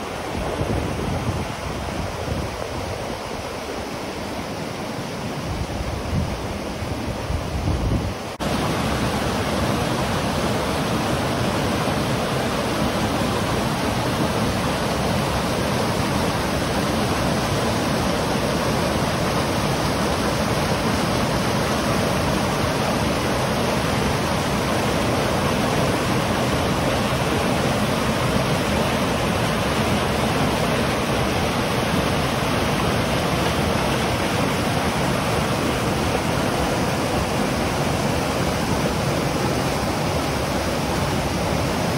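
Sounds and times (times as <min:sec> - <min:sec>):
water rushing over rocks: 0:00.0 - 0:41.9.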